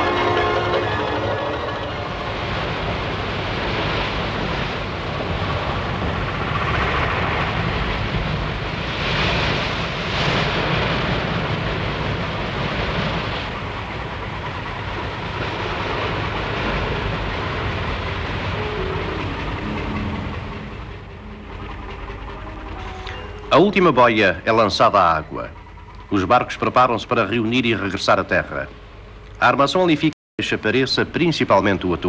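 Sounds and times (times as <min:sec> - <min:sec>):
low rumble: 0:00.0 - 0:29.4
water wash alongside boat: 0:00.0 - 0:32.0.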